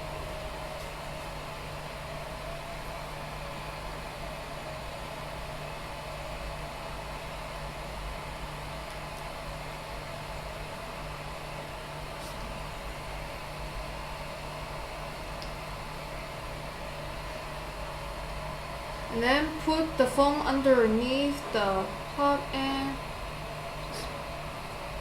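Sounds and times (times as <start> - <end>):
small cooling fan humming: 0.0 - 25.0.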